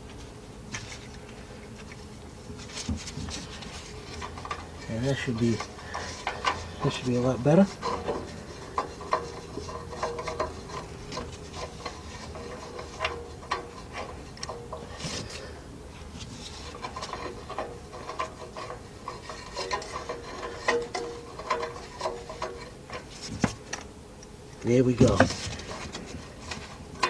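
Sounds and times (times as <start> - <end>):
faint steady hum: 0.0 - 27.0
metal clicks and scraping: 2.6 - 15.5, 16.2 - 27.0.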